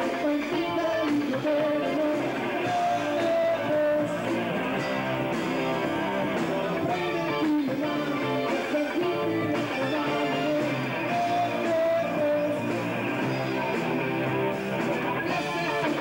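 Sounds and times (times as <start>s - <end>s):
live band music: 0.0s - 16.0s
strummed guitar: 0.0s - 16.0s.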